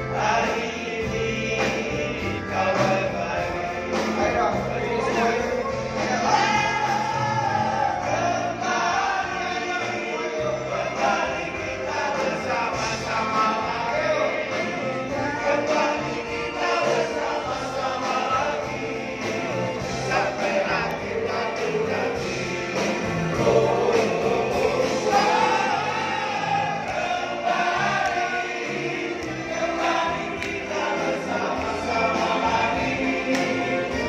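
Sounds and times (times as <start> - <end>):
band with steady bass beat: 0.0 - 34.0
group singing a pop song: 0.0 - 34.0.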